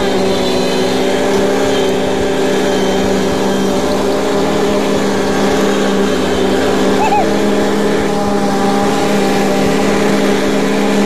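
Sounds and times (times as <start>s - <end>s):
ride-on lawnmower engine running: 0.0s - 11.0s.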